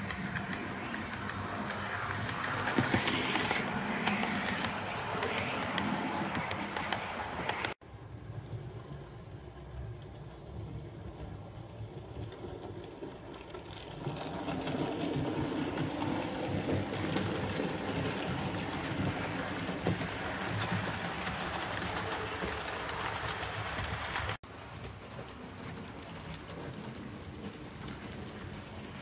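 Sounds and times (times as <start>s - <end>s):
model train rumbling on track: 0.0s - 29.0s.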